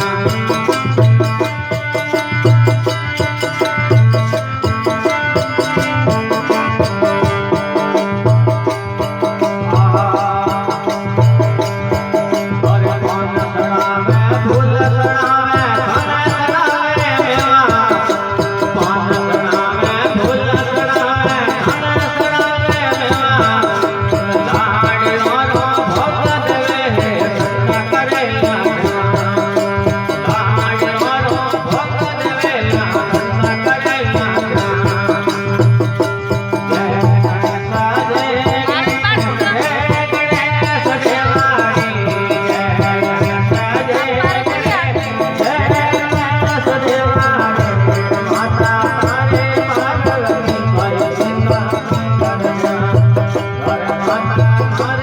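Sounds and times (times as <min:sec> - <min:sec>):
instrumental folk melody: 0:00.0 - 0:55.0
pulsing drum beat: 0:00.0 - 0:55.0.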